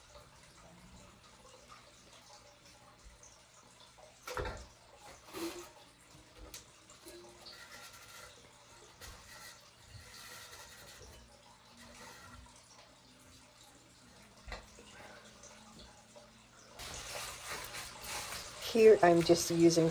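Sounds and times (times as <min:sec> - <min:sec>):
water dripping: 0:00.0 - 0:19.9.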